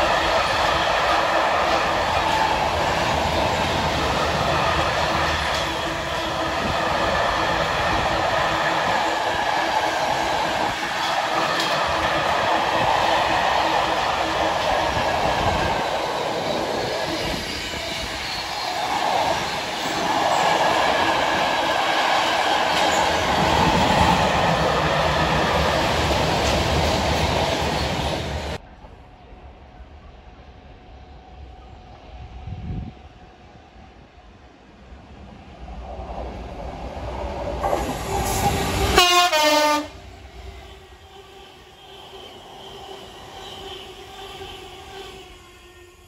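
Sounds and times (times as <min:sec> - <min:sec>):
ringing train wheels: 0:00.0 - 0:29.0, 0:37.6 - 0:46.0
train wheels rushing on rail: 0:00.0 - 0:46.0.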